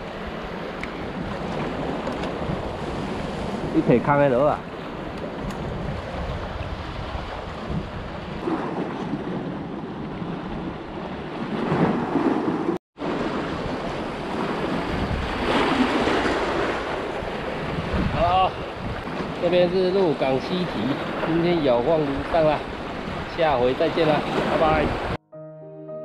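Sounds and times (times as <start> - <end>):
wind buffeting microphone: 0.0 - 25.2
waves washing against rocks: 0.2 - 25.2.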